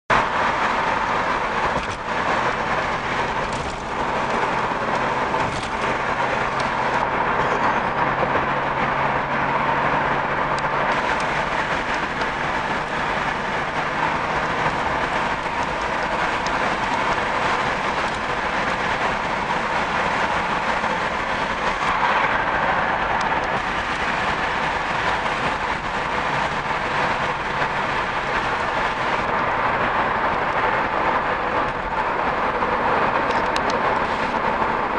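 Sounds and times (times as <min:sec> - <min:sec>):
car road noise from inside: 0:00.1 - 0:34.9
low engine hum: 0:00.1 - 0:34.9.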